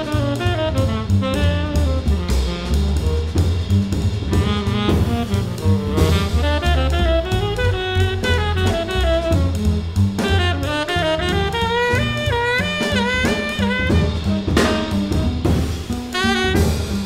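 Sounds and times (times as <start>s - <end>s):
double bass: 0.0s - 17.0s
drum kit: 0.0s - 17.0s
tenor saxophone solo: 0.0s - 17.0s.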